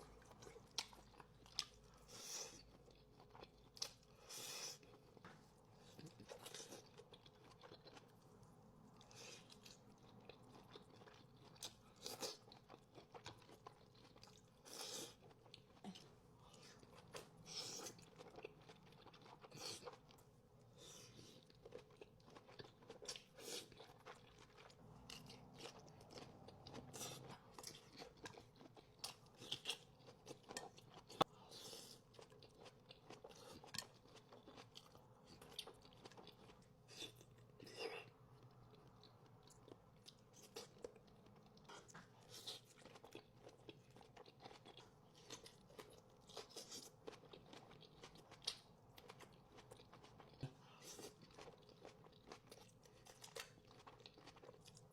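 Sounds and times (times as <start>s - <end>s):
chewing crunchy food: 0.0s - 54.9s.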